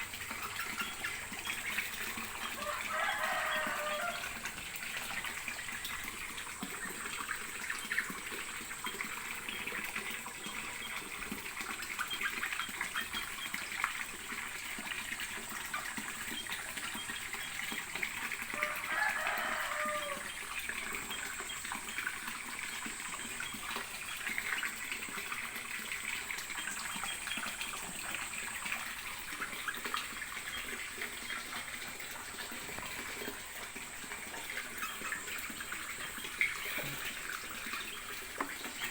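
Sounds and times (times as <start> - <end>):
water running and splashing: 0.0 - 38.9.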